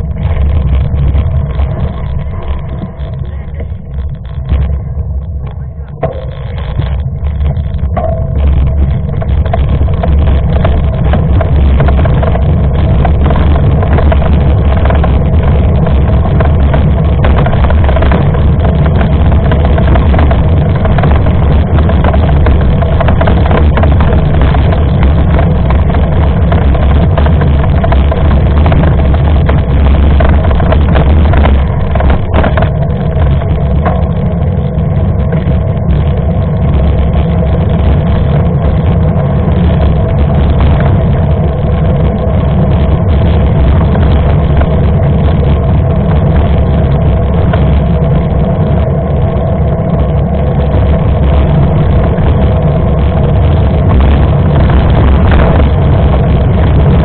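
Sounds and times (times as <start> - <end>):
bike tyres on trail: 0.0 - 57.0
wind on microphone: 0.0 - 57.0.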